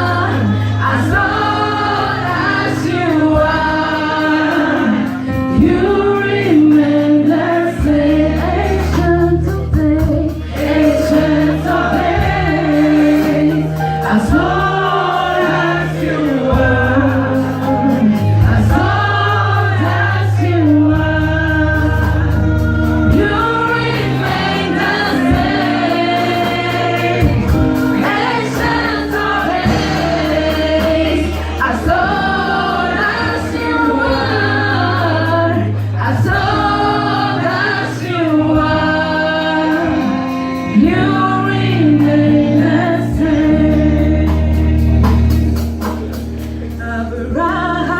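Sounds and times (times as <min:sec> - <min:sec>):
gospel choir singing: 0:00.0 - 0:47.9.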